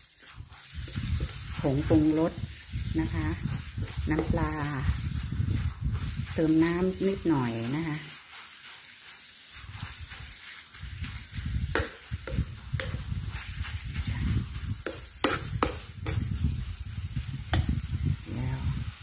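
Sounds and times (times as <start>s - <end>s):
faint frying sizzle: 0.0s - 19.0s
metal spoon scraping paste: 0.1s - 16.4s.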